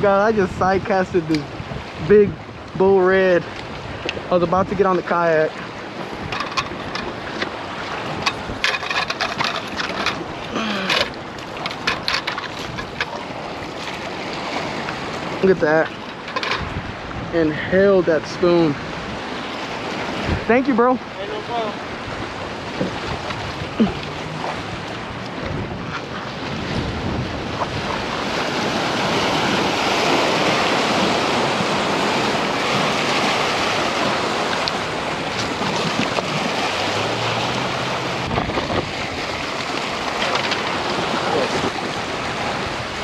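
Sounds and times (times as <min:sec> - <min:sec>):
waves washing against rocks: 0:00.0 - 0:43.0
wind buffeting microphone: 0:00.0 - 0:43.0.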